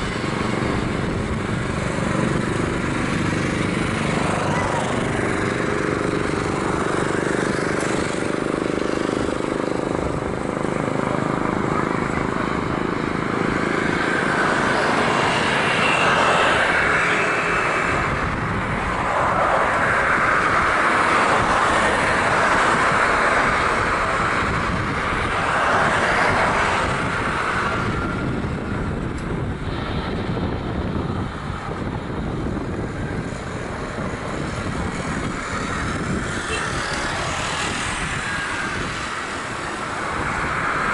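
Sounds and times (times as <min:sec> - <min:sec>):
jet engine rushing: 0:00.0 - 0:40.9.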